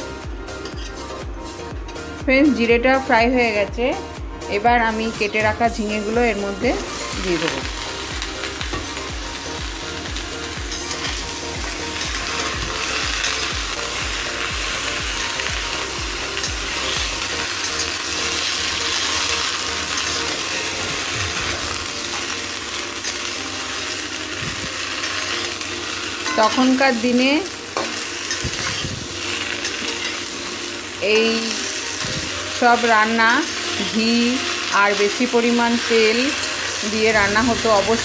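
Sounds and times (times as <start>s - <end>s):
vegetables sizzling in hot oil: 5.8s - 38.0s.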